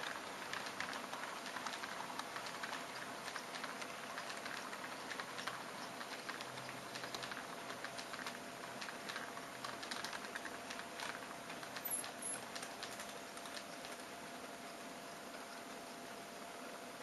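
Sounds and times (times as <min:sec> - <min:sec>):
model train wheels clicking: 0:00.0 - 0:14.1
faint steady hum: 0:00.0 - 0:17.0.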